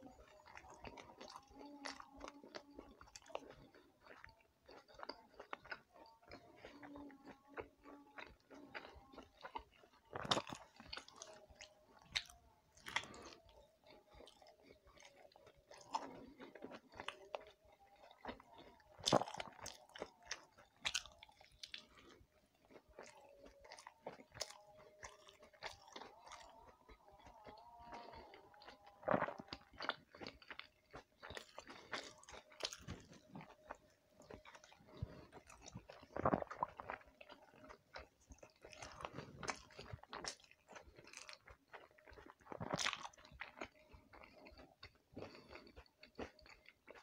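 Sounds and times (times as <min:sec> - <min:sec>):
chewing and biting: 0:00.0 - 0:47.0.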